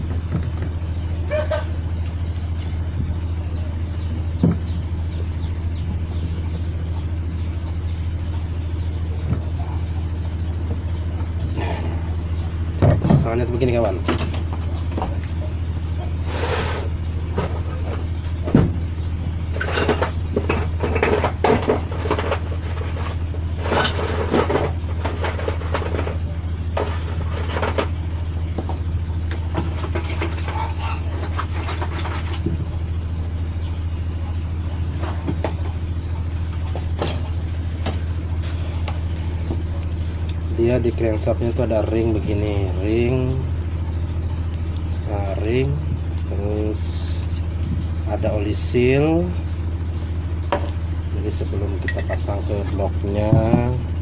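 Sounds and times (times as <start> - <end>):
low mechanical drone: 0.0 - 54.0
metal engine parts clinking: 8.3 - 16.2, 16.8 - 54.0.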